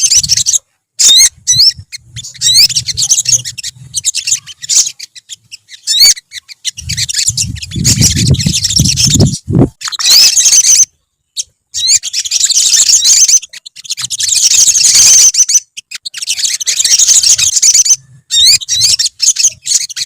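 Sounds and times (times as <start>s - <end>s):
sunbirds chirping and twittering: 0.0s - 20.0s.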